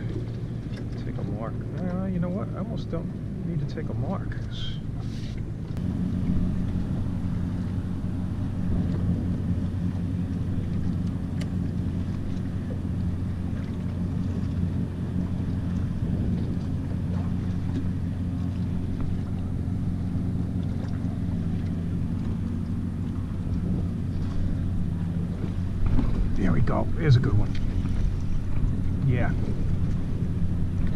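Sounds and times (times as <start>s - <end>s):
boat engine idling: 0.0s - 30.9s.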